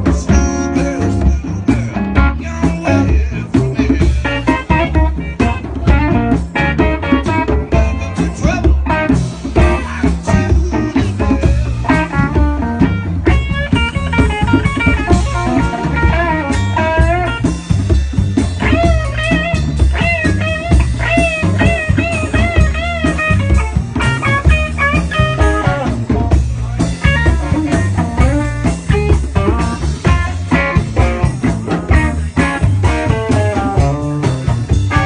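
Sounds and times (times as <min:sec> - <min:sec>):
bass: 0:00.0 - 0:35.0
drum kit: 0:00.0 - 0:35.0
guitar lead with bent notes: 0:00.0 - 0:35.0.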